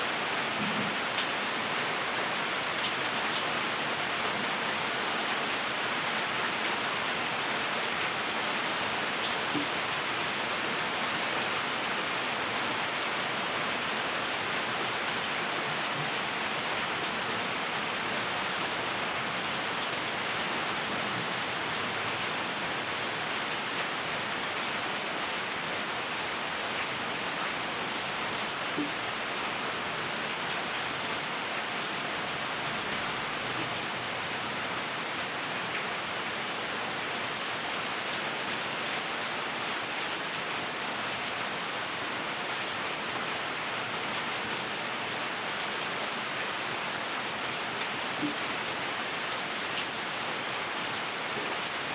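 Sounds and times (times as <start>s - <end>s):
light rain falling: 0.0s - 51.9s.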